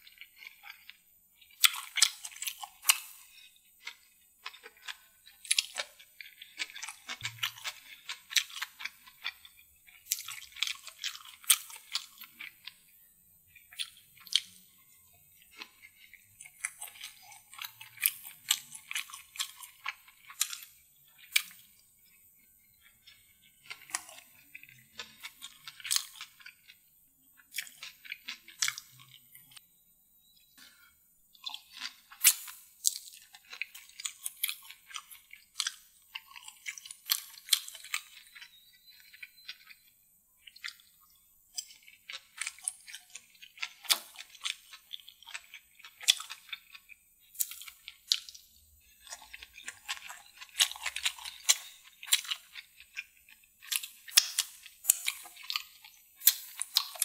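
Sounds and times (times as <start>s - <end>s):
sharp food crunches: 0.0s - 12.8s, 15.5s - 21.8s, 23.0s - 26.7s, 27.4s - 29.6s, 31.4s - 39.7s, 41.6s - 57.0s
wet chewing mouth sounds: 0.0s - 29.6s, 30.6s - 57.0s.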